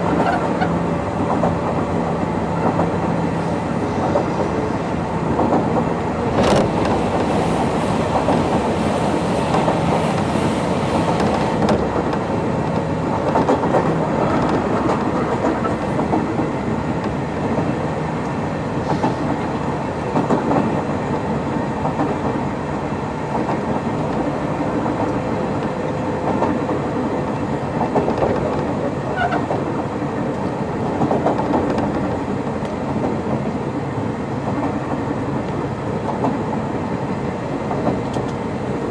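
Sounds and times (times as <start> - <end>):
train running rumble: 0.0 - 38.9.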